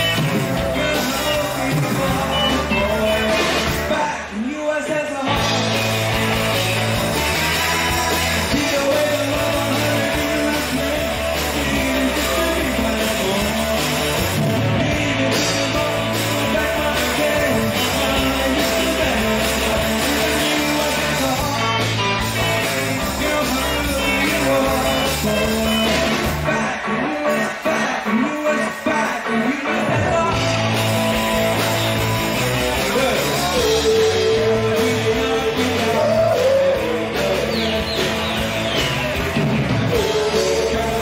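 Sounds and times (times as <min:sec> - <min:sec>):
person singing: 0:00.0 - 0:31.3, 0:32.0 - 0:41.0
bass guitar: 0:00.0 - 0:41.0
drums: 0:00.0 - 0:41.0
electric guitar: 0:00.0 - 0:41.0.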